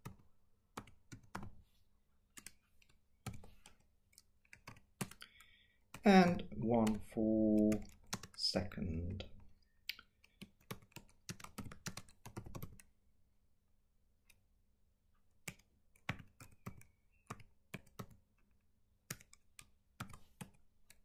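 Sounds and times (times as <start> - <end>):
faint keyboard typing: 0.0 - 13.0, 15.2 - 21.0.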